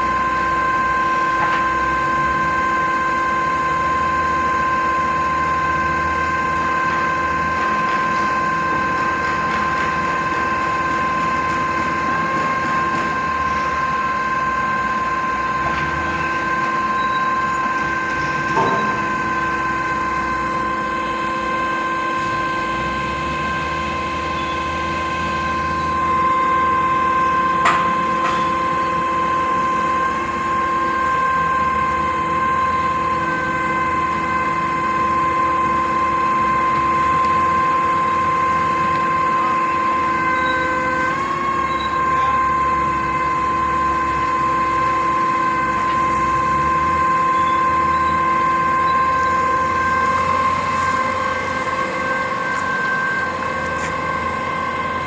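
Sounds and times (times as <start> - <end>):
concrete pump engine whine: 0.0 - 55.0.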